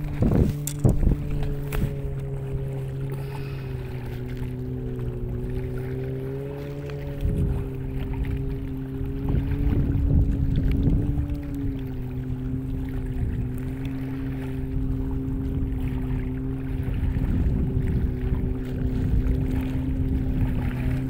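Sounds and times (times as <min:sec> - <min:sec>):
low rumble: 0:00.0 - 0:20.9
motor droning: 0:00.0 - 0:21.0.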